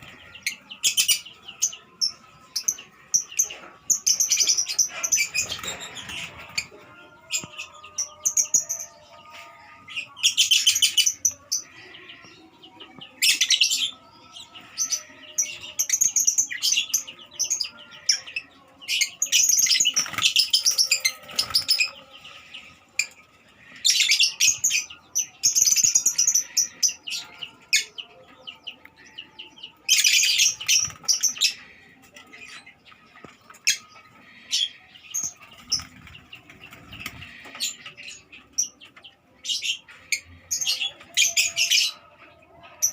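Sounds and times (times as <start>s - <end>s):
lovebirds chirping: 0.0s - 42.9s.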